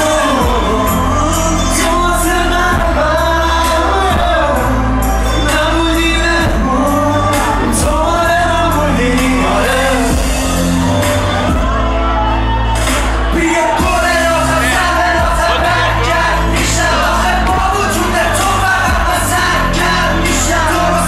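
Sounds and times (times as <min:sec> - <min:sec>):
man singing: 0:00.0 - 0:10.8, 0:13.3 - 0:21.0
pop music drums and bass: 0:00.0 - 0:21.0.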